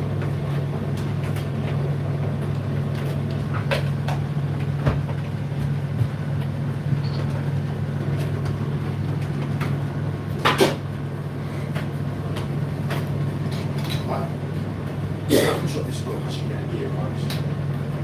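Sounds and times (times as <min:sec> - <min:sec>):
tumble dryer humming: 0:00.0 - 0:18.0.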